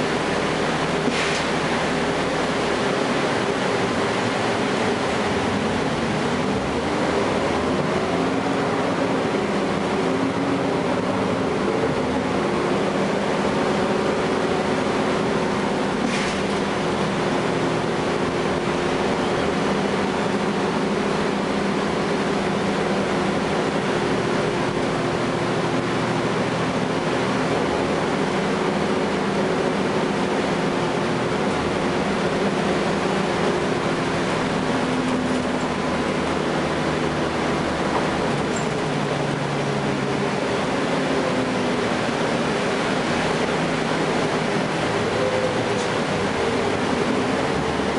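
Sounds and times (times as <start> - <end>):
bus diesel engine accelerating: 0.0 - 47.9.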